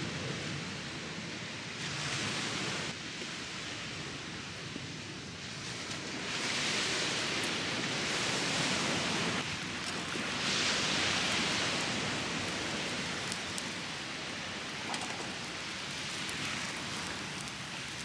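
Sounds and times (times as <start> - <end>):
rushing water spray: 1.8 - 18.0.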